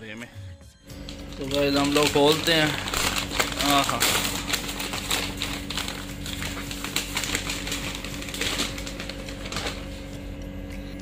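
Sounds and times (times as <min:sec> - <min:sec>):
paper bag crinkling: 0:00.9 - 0:10.4.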